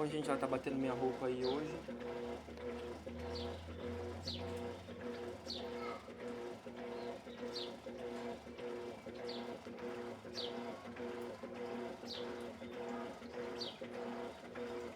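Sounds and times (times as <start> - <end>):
washing machine pulsing hum: 0.0 - 14.9.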